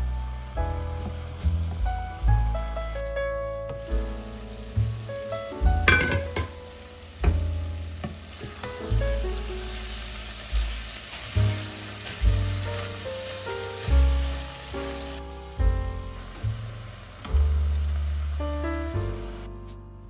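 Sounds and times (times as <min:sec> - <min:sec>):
vegetables sizzling in a pot: 0:00.0 - 0:19.5.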